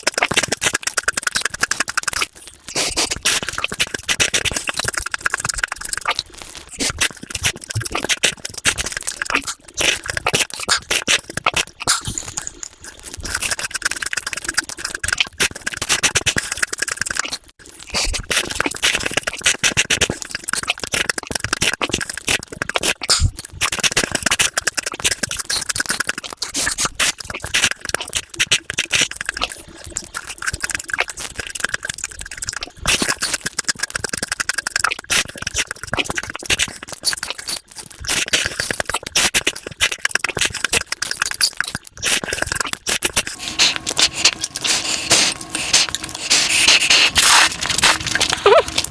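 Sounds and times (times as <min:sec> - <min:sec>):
sped-up chewing and mouth clicks: 0:00.0 - 0:48.9.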